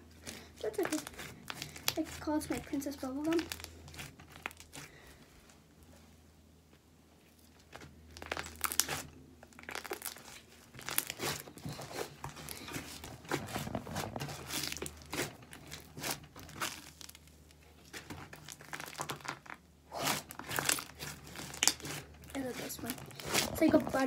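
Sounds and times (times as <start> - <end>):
slime crackling and popping: 0.0 - 4.9, 7.4 - 24.0.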